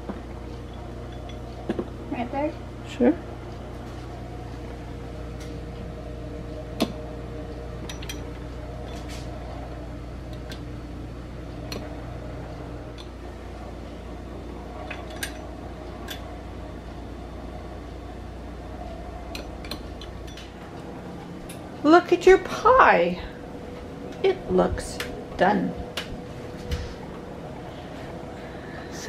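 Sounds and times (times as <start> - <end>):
low appliance hum: 0.0 - 29.0.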